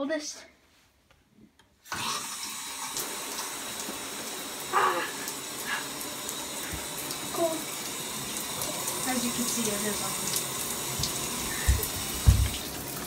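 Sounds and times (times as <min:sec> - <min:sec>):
water running from tub spout: 0:01.8 - 0:13.0.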